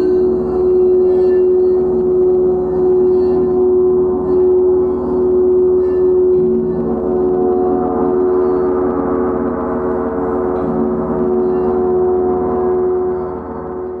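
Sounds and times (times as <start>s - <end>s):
gong and singing bowls ringing: 0.0s - 14.0s
steady held tone: 0.0s - 14.0s.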